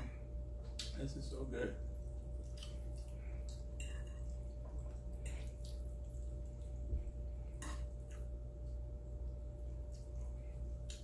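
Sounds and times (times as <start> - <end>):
steady low hum: 0.0 - 11.0
wet chewing and mouth sounds: 0.6 - 1.0, 1.8 - 11.0.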